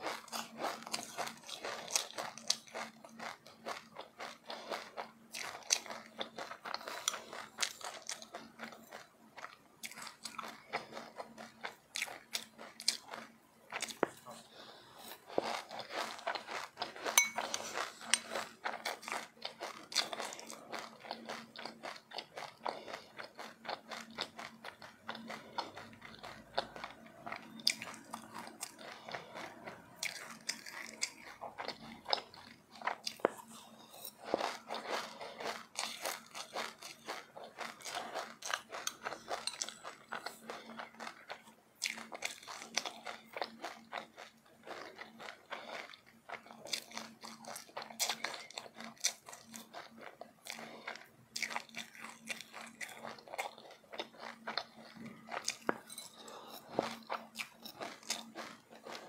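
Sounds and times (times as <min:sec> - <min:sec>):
chewing and crunching seeds: 0:00.0 - 0:59.0.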